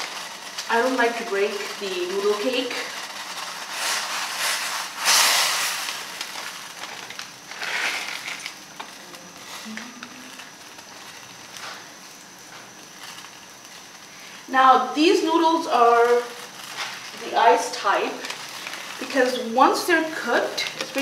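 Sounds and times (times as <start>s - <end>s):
splash and hiss in boiling water: 0.0s - 21.0s.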